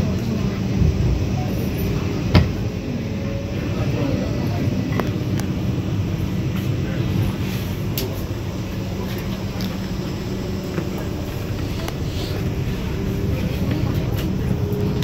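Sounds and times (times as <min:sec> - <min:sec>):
train running at speed: 0:00.0 - 0:15.0.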